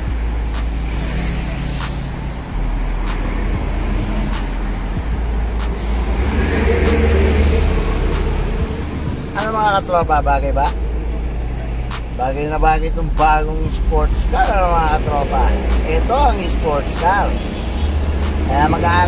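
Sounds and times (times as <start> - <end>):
low hum from car: 0.0 - 19.0.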